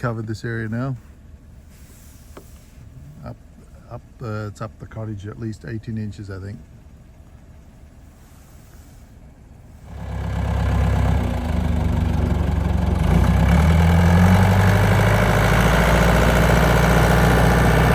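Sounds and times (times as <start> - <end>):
bulldozer diesel engine running: 0.0 - 17.9.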